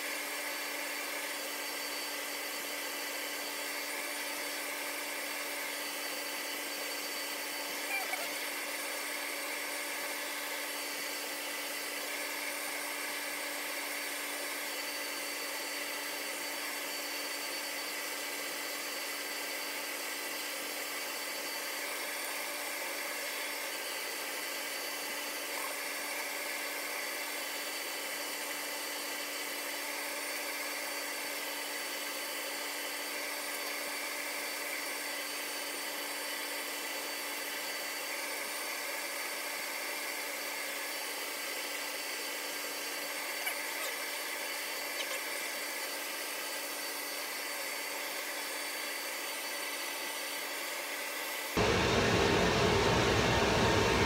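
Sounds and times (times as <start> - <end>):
high-speed cooling fans whirring: 0.0 - 54.0.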